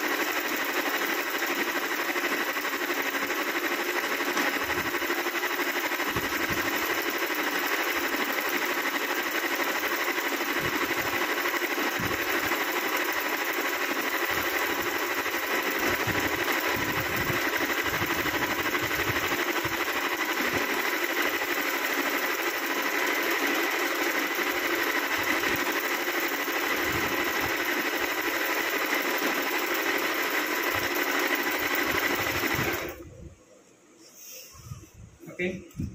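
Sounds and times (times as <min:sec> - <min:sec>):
electric sewing machine running: 0:00.0 - 0:33.1.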